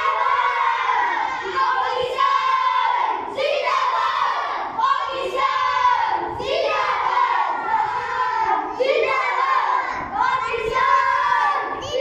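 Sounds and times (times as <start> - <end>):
children chanting in unison: 0.0 - 12.0.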